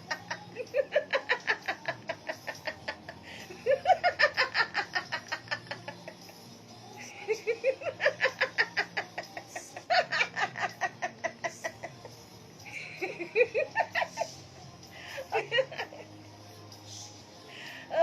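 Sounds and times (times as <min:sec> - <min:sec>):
hearty human laughter: 0:00.0 - 0:06.4, 0:07.0 - 0:16.1.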